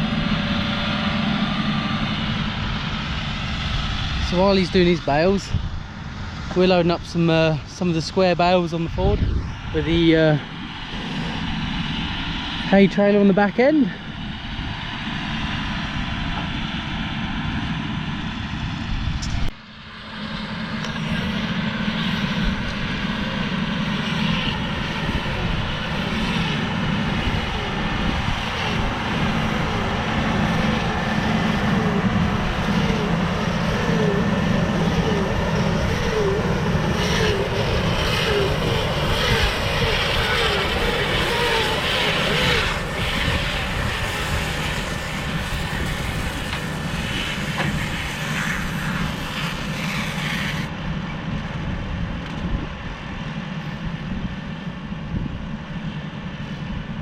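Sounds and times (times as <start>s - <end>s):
tractor engine running under load: 0.0s - 7.1s, 9.8s - 57.0s.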